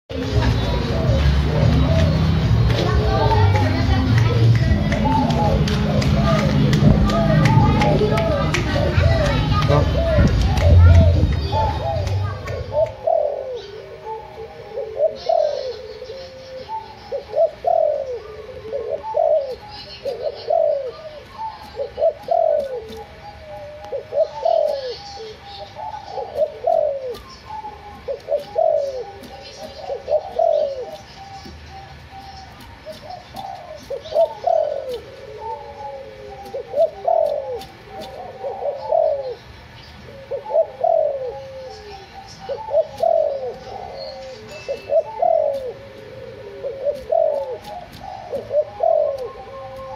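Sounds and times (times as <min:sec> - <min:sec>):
dove cooing: 0:00.1 - 0:49.9.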